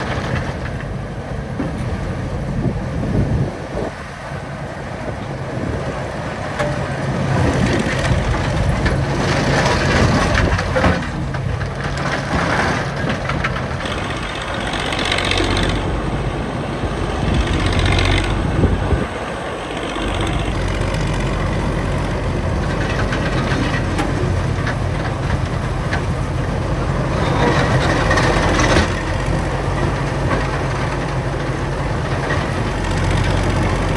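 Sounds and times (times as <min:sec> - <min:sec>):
heavy construction machinery engines: 0:00.0 - 0:33.9
low engine rumble: 0:00.0 - 0:33.9.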